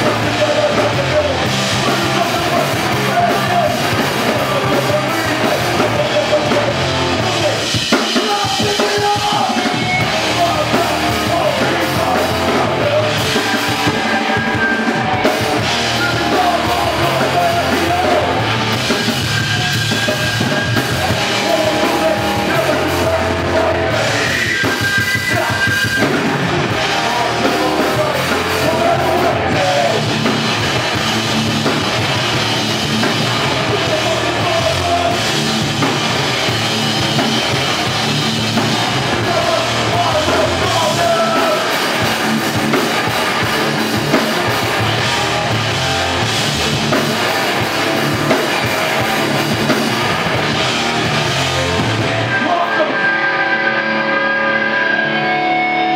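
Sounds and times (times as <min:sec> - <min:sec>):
drum kit: 0:00.0 - 0:53.2
bass guitar: 0:00.0 - 0:55.9
distorted electric guitars: 0:00.0 - 0:55.9
vocalist singing and shouting: 0:00.0 - 0:55.9.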